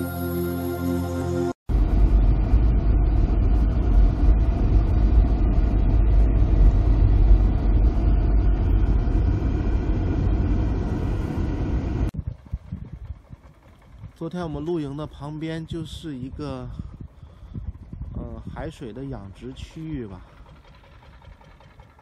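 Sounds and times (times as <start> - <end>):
tyre and wind road noise: 1.7 - 22.0.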